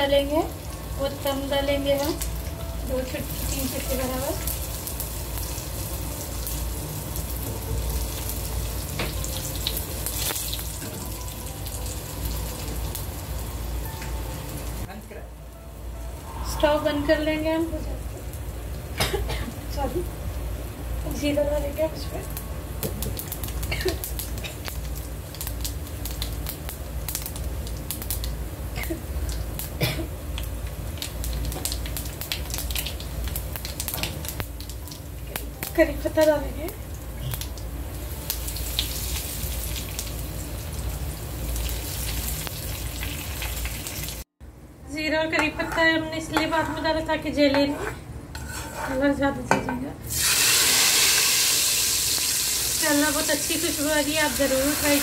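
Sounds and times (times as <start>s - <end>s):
oil sizzling in a pan: 0.0s - 44.3s, 50.0s - 55.0s
low steady hum: 0.0s - 50.1s.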